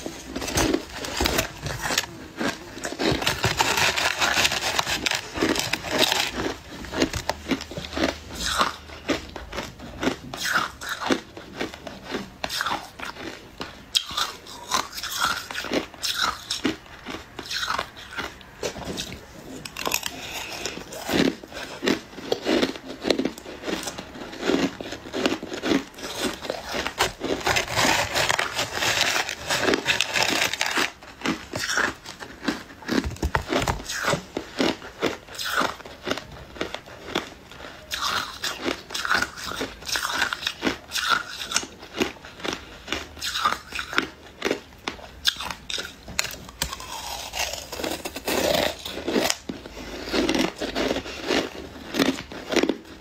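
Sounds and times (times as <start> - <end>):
ice crunching between teeth: 0.0 - 53.0.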